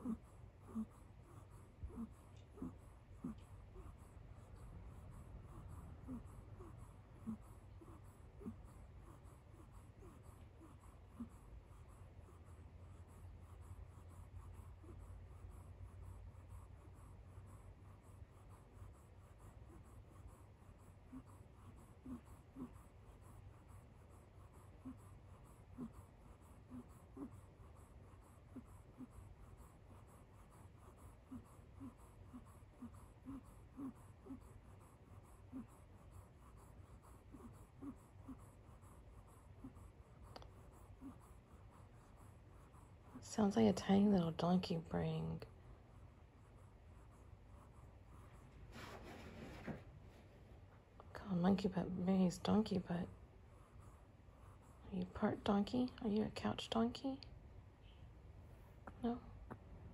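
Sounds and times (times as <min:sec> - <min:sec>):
kitten snoring: 0:00.0 - 0:48.5.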